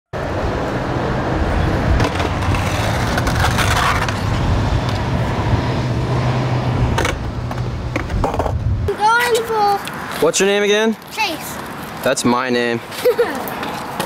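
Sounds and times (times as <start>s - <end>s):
road traffic rumble: 0.2s - 14.0s.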